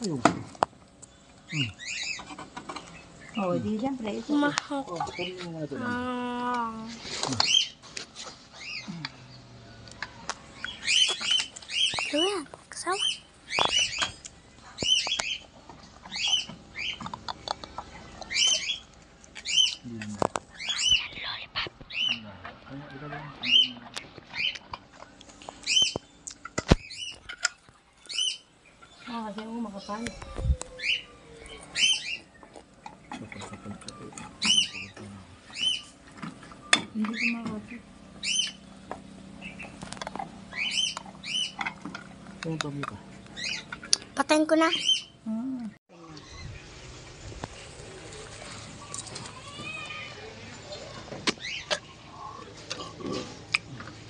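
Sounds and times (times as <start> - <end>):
small bird chirping: 1.0 - 7.8, 8.5 - 22.4, 23.0 - 52.5.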